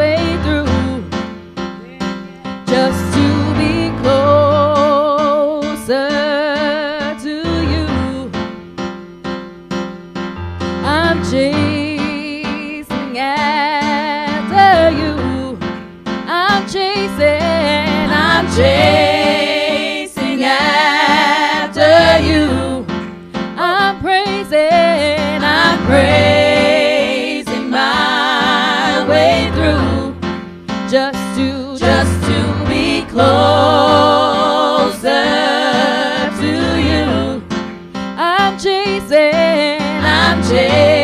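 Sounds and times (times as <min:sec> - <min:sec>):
women singing gospel with vibrato: 0:00.0 - 0:01.2, 0:02.4 - 0:08.4, 0:10.8 - 0:15.6, 0:16.3 - 0:23.0, 0:23.6 - 0:30.3, 0:30.9 - 0:37.6, 0:38.2 - 0:41.0
digital piano chords: 0:00.0 - 0:41.0.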